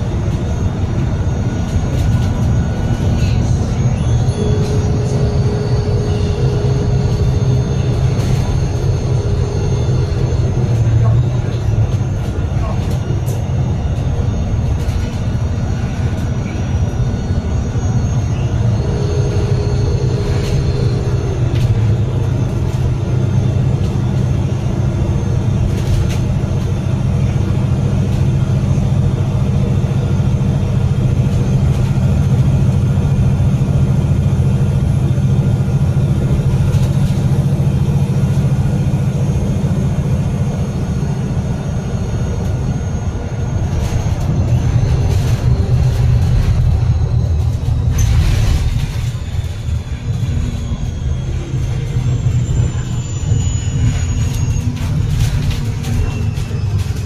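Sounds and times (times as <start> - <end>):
diesel bus engine drone: 0.0 - 57.0
road and tyre noise: 0.0 - 57.0.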